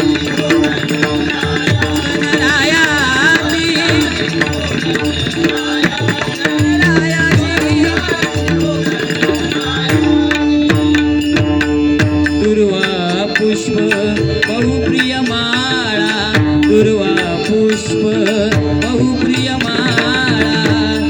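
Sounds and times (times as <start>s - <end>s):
harmonium drone and melody: 0.0s - 21.0s
tabla hand-drum strokes: 0.0s - 21.0s.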